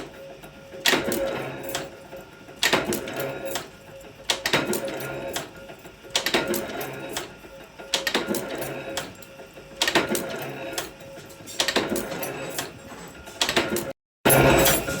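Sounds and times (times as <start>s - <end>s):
machine rattling: 0.0s - 15.0s.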